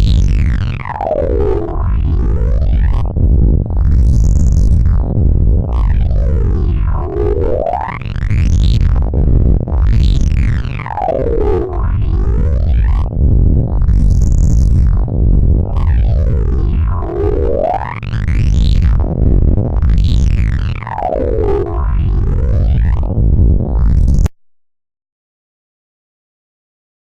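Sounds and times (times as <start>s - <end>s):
distorted low drone: 0.0s - 24.3s.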